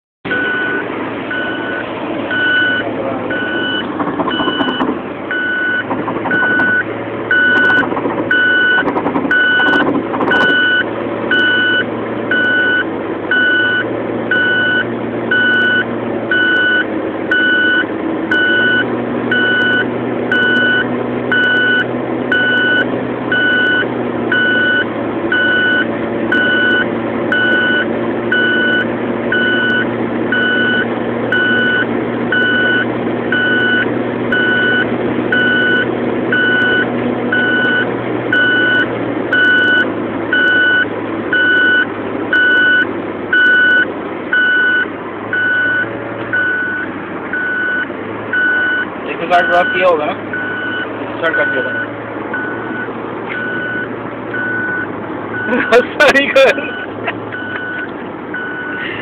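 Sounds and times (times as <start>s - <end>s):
car warning chime beeping: 0.3s - 58.8s
engine and road noise in car: 0.3s - 59.0s.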